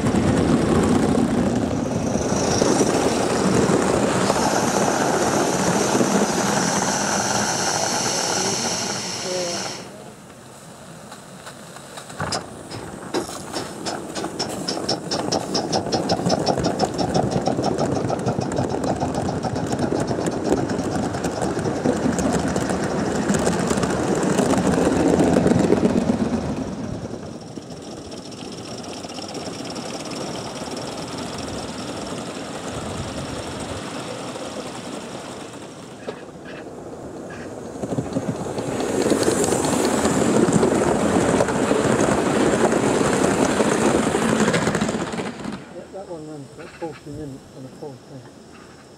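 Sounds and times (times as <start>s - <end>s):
model steam locomotive chuffing: 0.0s - 10.2s, 11.4s - 47.6s
train rumbling on track: 0.0s - 48.9s.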